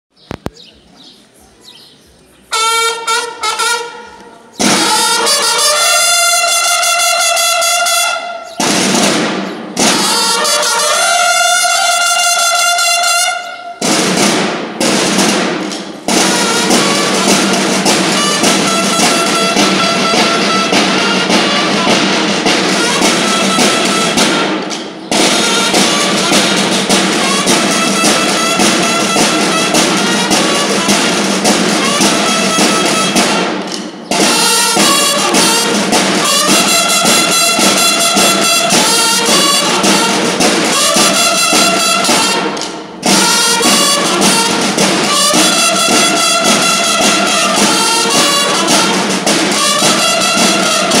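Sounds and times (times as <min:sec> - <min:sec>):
bugles sounding calls: 0:00.4 - 0:51.0
field drums beating a march: 0:02.5 - 0:51.0.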